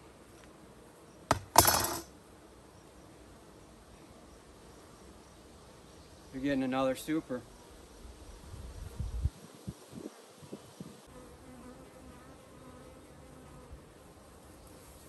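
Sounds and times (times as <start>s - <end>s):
honeybees buzzing: 2.2s - 15.0s.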